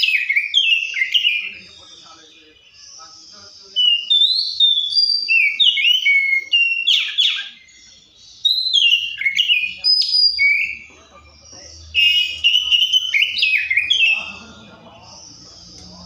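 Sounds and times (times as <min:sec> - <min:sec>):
bird singing whistled phrases: 0:00.0 - 0:10.9, 0:11.9 - 0:14.4.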